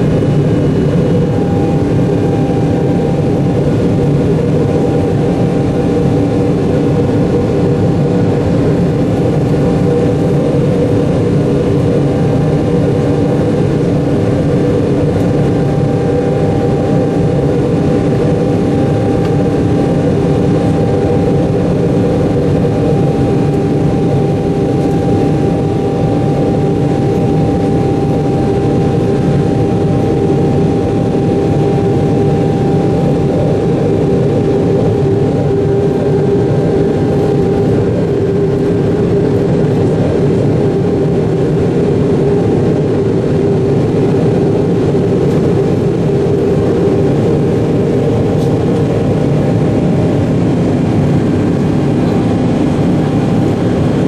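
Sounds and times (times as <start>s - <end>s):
engine whine: 0.0s - 54.0s
jet engines roaring in cabin: 0.0s - 54.0s.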